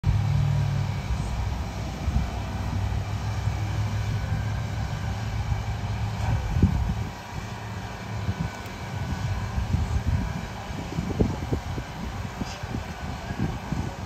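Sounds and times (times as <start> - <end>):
continuous low rumble: 0.0 - 14.0.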